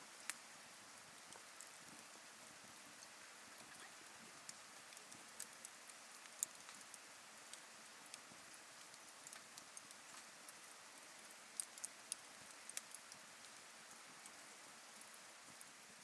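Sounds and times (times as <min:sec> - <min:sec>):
soft steady fire hiss: 0:00.0 - 0:16.0
campfire popping and snapping: 0:00.2 - 0:16.0.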